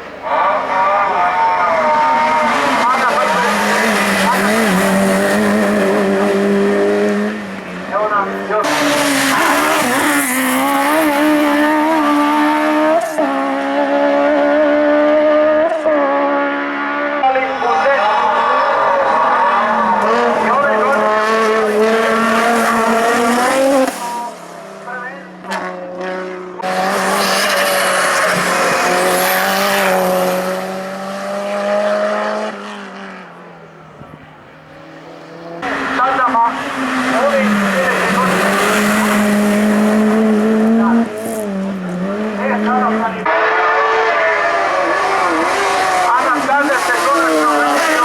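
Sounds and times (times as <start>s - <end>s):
race car engine high revs: 1.3s - 33.3s, 34.3s - 48.0s.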